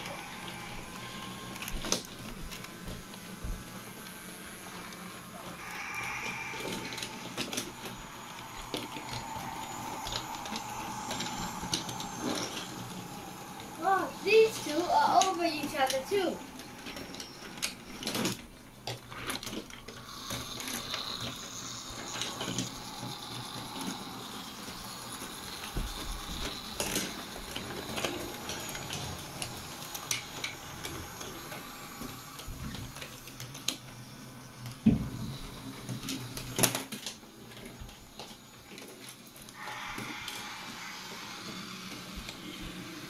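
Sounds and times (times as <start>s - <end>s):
wheels clicking over track joints: 0.0s - 39.6s
toy train motors whirring: 0.0s - 43.0s.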